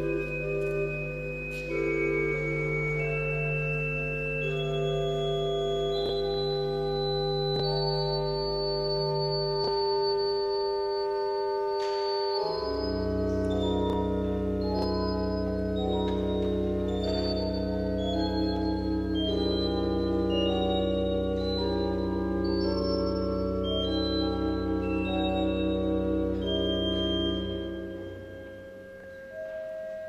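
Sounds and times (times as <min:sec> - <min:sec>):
pipe organ playing: 0:00.0 - 0:30.0.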